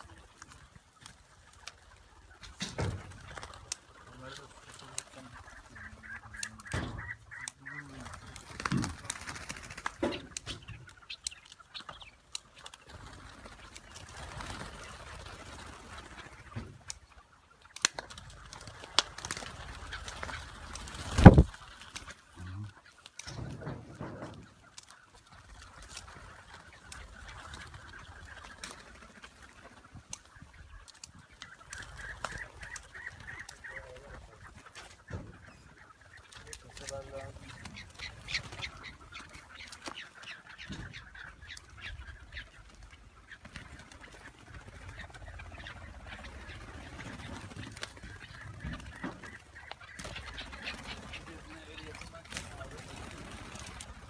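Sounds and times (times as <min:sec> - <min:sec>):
partridges clucking and calling: 0:00.0 - 0:54.0
rustles: 0:00.0 - 0:54.0.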